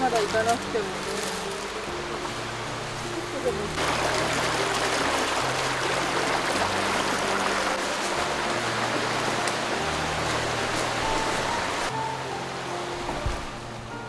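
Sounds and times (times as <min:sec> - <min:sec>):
soft music of low notes: 0:00.0 - 0:14.0
stream rushing over rocks: 0:00.0 - 0:14.0.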